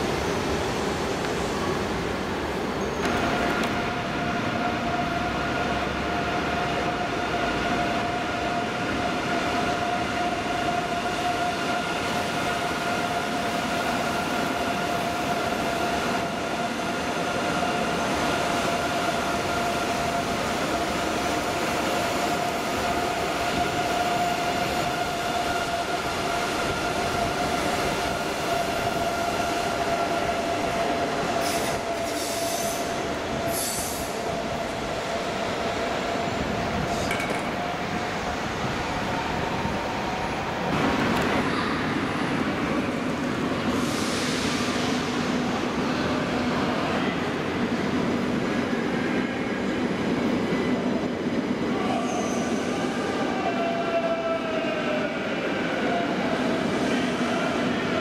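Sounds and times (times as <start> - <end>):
rail noise: 0.0 - 58.0
train rolling past: 0.0 - 58.0.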